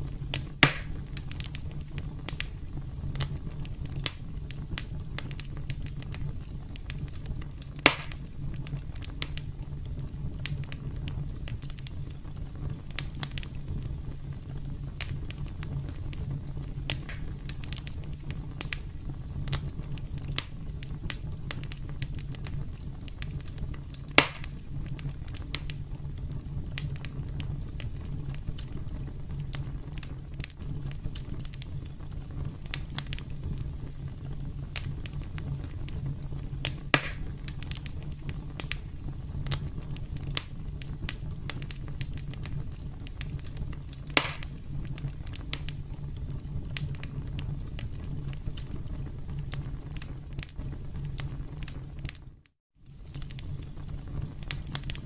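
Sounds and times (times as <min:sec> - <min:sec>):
campfire crackling: 0:00.0 - 0:55.0
loud fire pops: 0:00.0 - 0:55.0.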